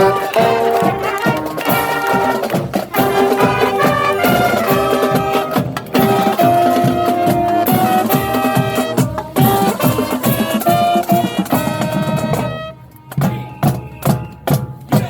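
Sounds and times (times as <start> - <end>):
brass instruments: 0.0 - 15.0
drum-line beat: 0.0 - 15.0.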